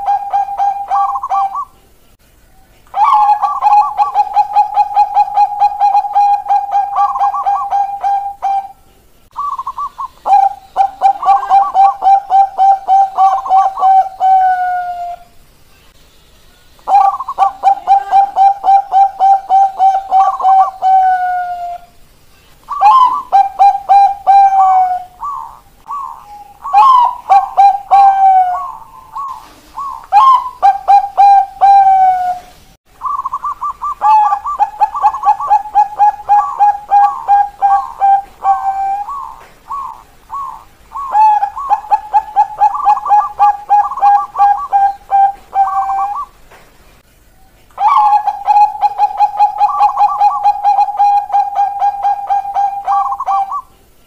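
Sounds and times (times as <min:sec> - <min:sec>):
doves cooing: 0:00.0 - 0:01.8, 0:02.9 - 0:15.3, 0:16.9 - 0:22.0, 0:22.7 - 0:46.5, 0:47.8 - 0:53.9.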